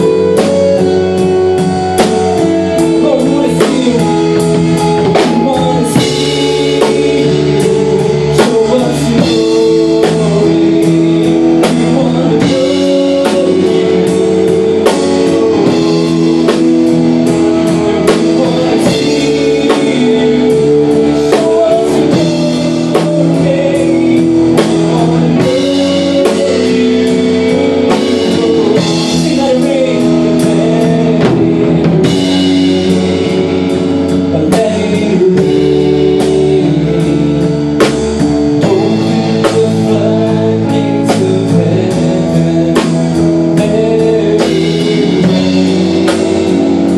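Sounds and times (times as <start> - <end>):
drum kit beat: 0.0 - 46.9
guitars holding sustained chords: 0.0 - 46.9.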